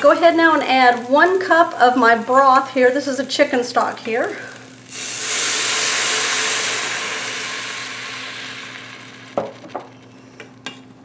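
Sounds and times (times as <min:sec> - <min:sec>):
stock sizzling in hot pot: 0:00.0 - 0:10.7.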